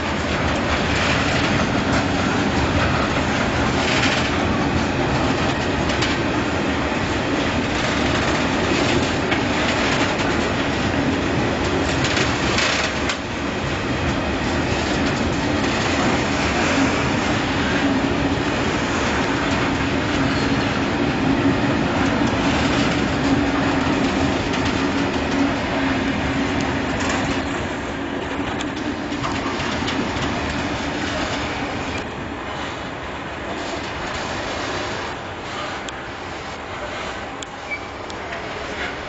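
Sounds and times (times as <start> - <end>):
train wheels clacking over rail joints: 0.0 - 32.8.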